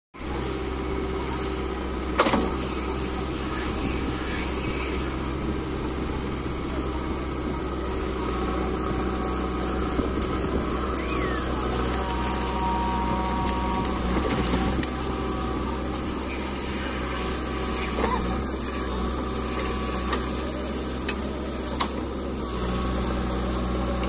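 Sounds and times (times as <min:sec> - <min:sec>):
diesel engine running: 0:00.2 - 0:24.0.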